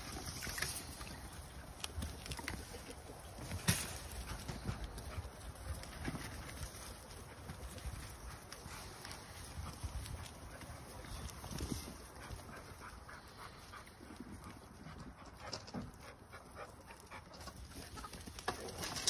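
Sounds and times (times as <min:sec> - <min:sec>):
goats rustling on straw: 0:00.0 - 0:19.0.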